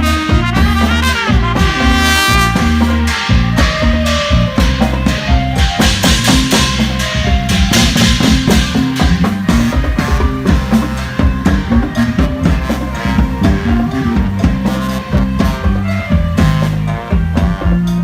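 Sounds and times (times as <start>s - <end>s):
brass band playing: 0.0s - 18.0s
drum kit beating fast rhythm: 0.0s - 18.0s
low bass notes: 0.0s - 18.0s.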